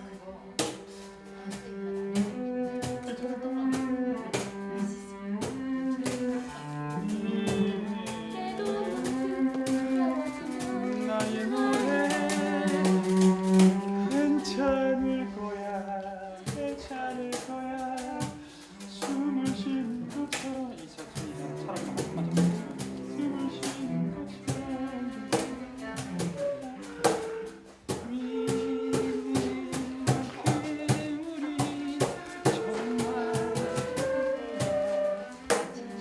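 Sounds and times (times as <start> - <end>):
bowed strings long notes: 0.0 - 16.6, 18.7 - 36.0.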